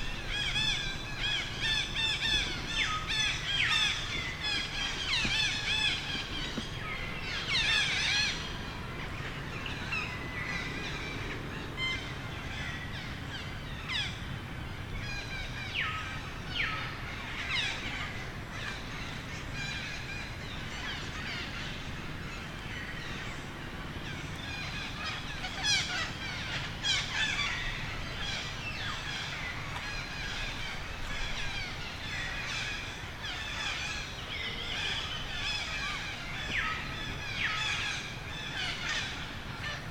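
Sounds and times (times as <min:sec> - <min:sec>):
outdoor background: 0:00.0 - 0:39.9.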